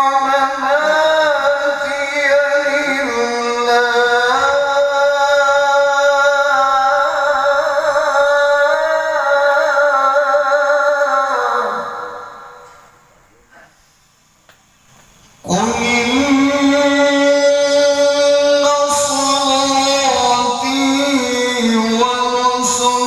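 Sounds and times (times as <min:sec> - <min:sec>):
man chanting recitation: 0:00.0 - 0:13.0, 0:15.4 - 0:23.0.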